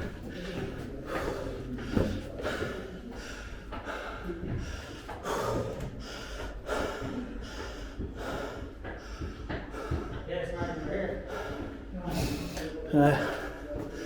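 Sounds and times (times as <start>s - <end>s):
man panting heavily: 0.0s - 14.0s.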